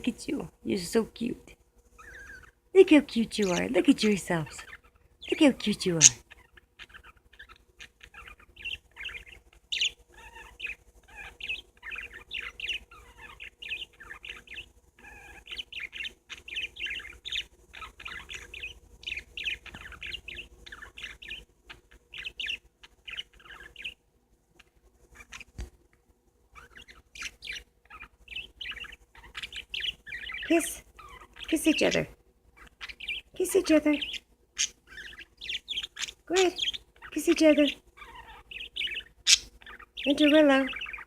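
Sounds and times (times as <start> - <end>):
parakeets chattering and warbling: 0.0 - 24.0, 24.6 - 25.6, 26.5 - 41.0.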